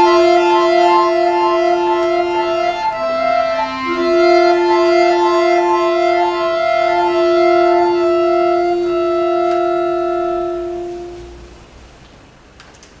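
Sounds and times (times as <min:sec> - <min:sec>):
accordion chord: 0:00.0 - 0:11.9.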